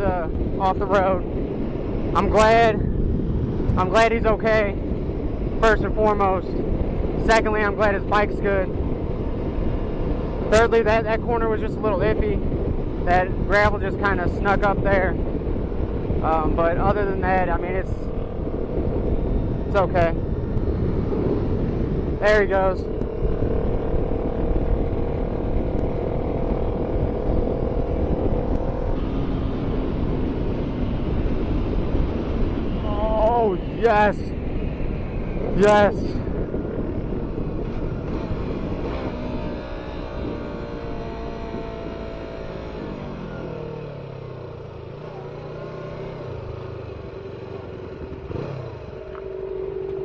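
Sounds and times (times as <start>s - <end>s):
wind rush: 0.0s - 44.8s
motorcycle engine running: 0.0s - 50.0s.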